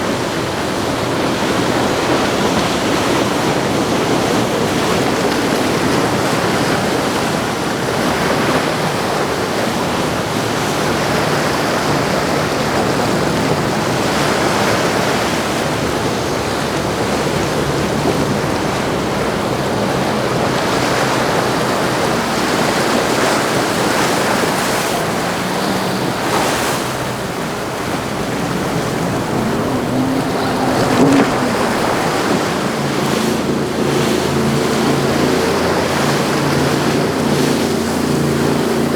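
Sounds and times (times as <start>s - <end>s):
low drone of boat engines: 0.0s - 38.9s
waves rushing: 0.0s - 38.9s
wind buffeting microphone: 0.0s - 38.9s.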